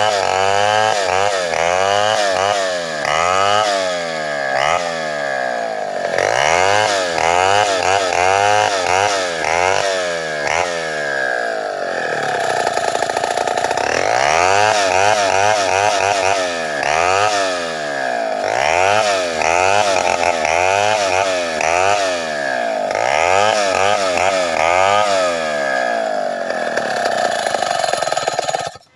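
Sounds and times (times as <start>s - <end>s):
chainsaw ripping a log: 0.0s - 28.9s.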